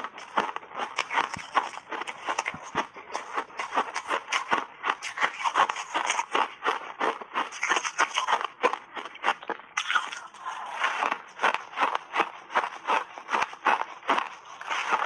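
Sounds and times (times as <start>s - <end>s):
chewing ice with crunches: 0.0s - 15.0s.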